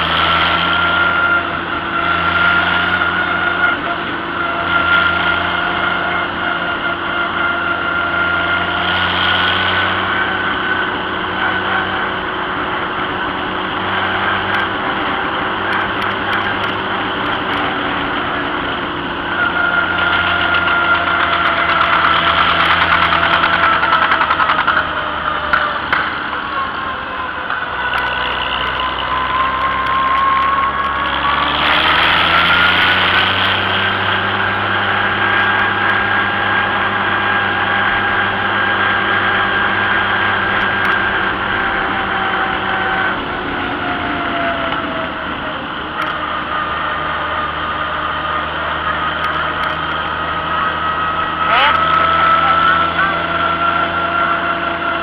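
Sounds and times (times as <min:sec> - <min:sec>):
high whine: 0:00.0 - 0:55.0
tractor engine running: 0:00.0 - 0:55.0.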